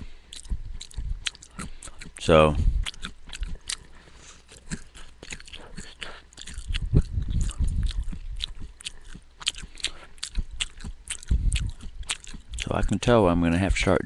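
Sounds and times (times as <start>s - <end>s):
crunchy chewing: 0.0s - 13.2s.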